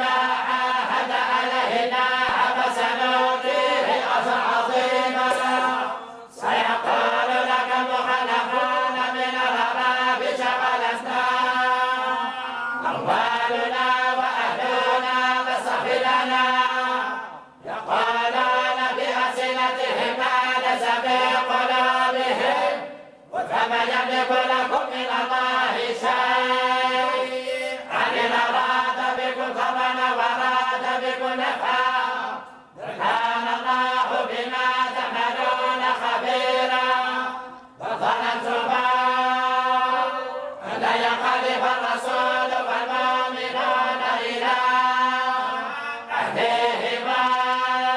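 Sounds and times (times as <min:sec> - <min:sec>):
group of voices chanting in unison: 0:00.0 - 0:47.9.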